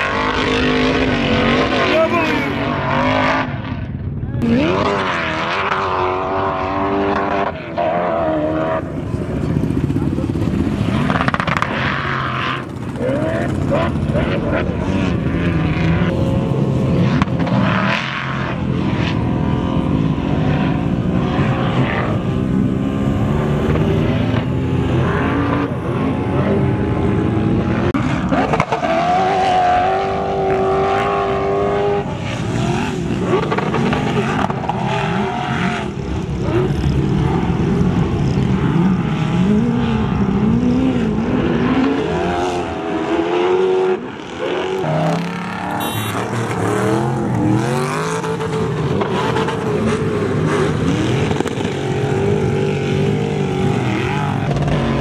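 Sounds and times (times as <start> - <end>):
sand buggy engines revving: 0.0 - 55.0.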